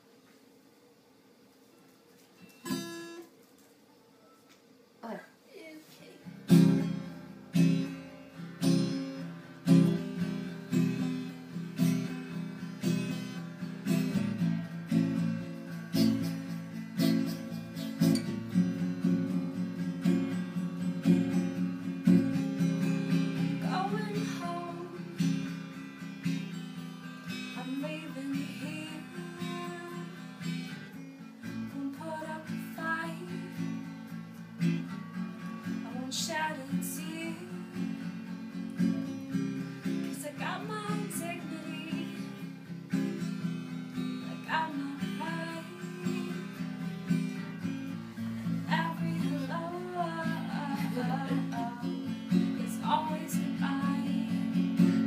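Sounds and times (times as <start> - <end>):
acoustic guitar strumming chords: 2.4 - 3.4, 6.2 - 55.0.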